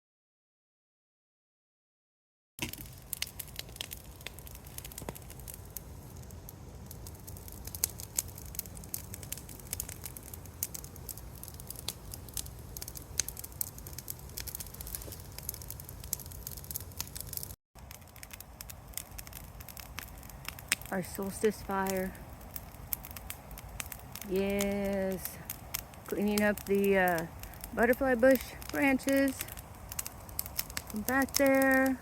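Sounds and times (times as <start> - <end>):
bonfire crackling and popping: 2.6 - 32.0
low rush of fire: 2.6 - 32.0.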